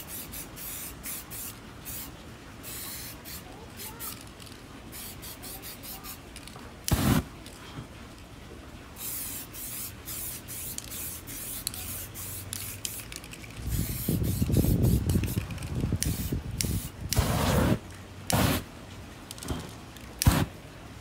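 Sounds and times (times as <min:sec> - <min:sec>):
spray paint can hissing: 0:00.0 - 0:07.3, 0:09.0 - 0:18.7, 0:20.2 - 0:20.6.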